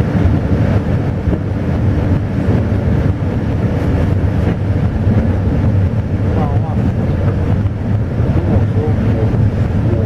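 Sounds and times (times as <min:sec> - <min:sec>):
train carriage rumbling: 0:00.0 - 0:10.0.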